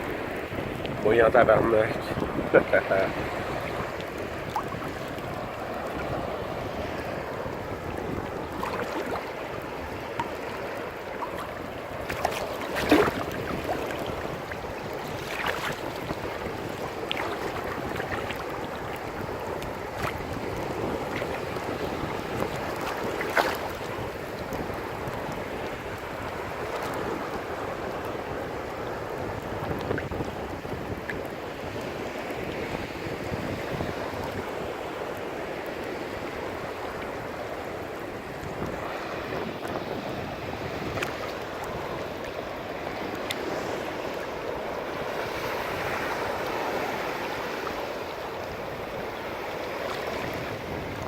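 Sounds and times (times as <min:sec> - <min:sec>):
rough ocean water churning: 0:00.0 - 0:51.0
wind buffeting microphone: 0:00.0 - 0:51.0.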